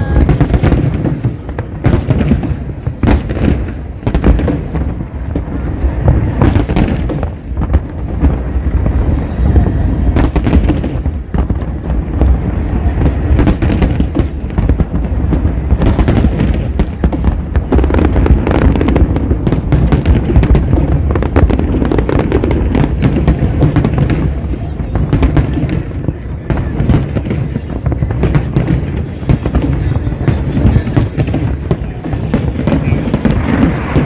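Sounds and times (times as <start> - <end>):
fireworks booms and crackles: 0.0 - 34.0.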